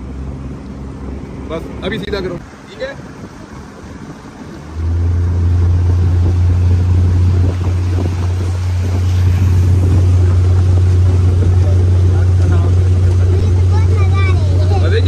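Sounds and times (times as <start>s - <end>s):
vehicle engine droning: 0.0s - 15.0s
wind noise on microphone: 2.4s - 15.0s.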